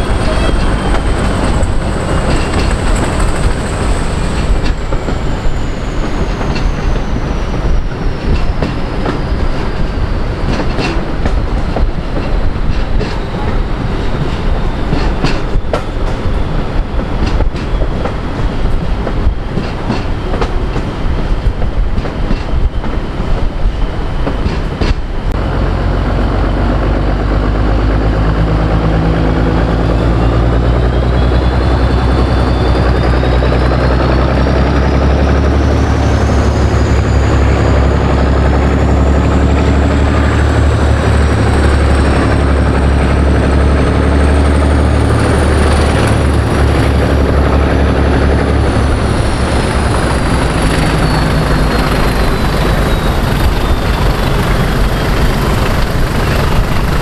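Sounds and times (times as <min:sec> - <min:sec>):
diesel locomotive engine whining: 0:00.0 - 0:57.0
train wheels clicking over rail joints: 0:00.0 - 0:57.0.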